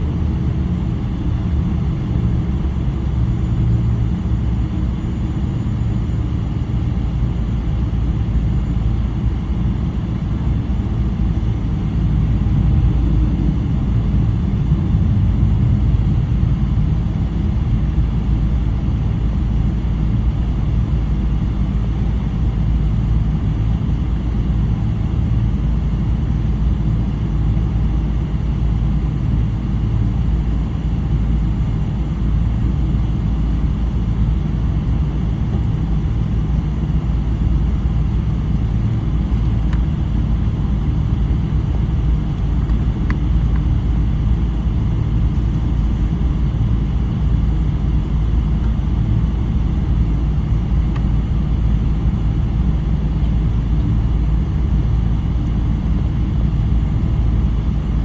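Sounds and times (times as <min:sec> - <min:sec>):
airliner engines rumbling in cabin: 0:00.0 - 0:58.0.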